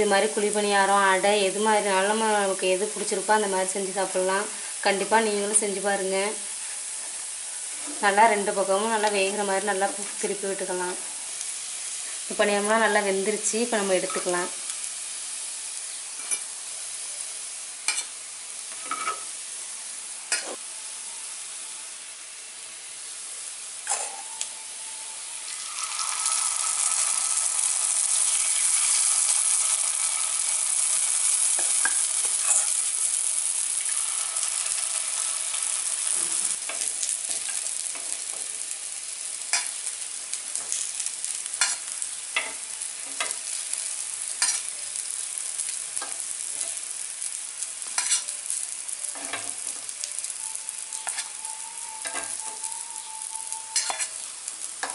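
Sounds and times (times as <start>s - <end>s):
batter frying in oil: 0.0s - 54.9s
loud sizzle of batter: 0.0s - 54.9s.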